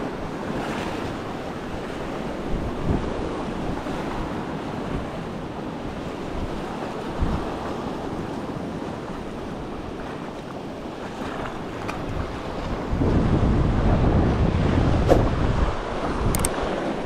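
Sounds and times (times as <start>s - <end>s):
sea waves: 0.0s - 17.0s
wind noise on microphone: 0.0s - 17.0s.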